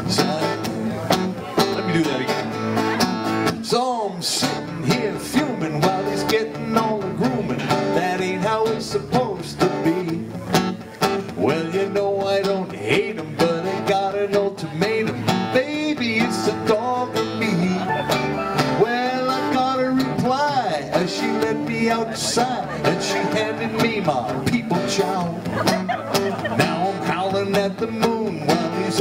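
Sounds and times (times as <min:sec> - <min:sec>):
acoustic guitar strumming: 0:00.0 - 0:29.0
man singing: 0:00.0 - 0:29.0.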